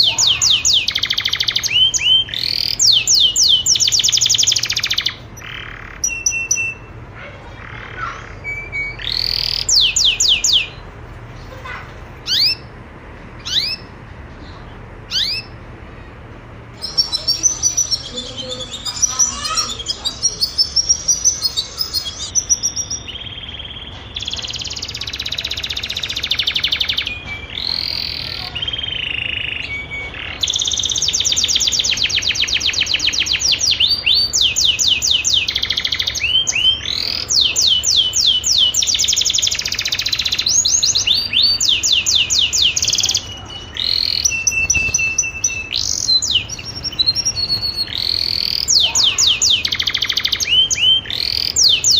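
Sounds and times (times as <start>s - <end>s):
canary chirping and trilling: 0.0s - 51.9s.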